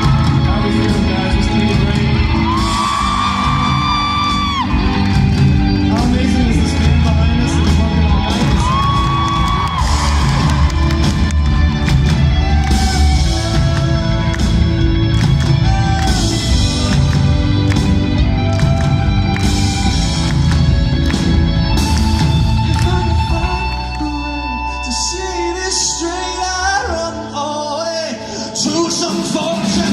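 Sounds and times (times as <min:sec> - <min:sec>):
drums: 0:00.0 - 0:29.9
live rock band music: 0:00.0 - 0:29.9.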